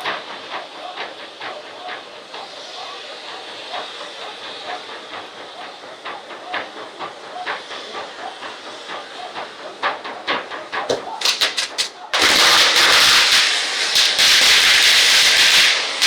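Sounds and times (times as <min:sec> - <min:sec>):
fireworks hissing and crackling: 0:00.0 - 0:00.7, 0:02.1 - 0:16.0.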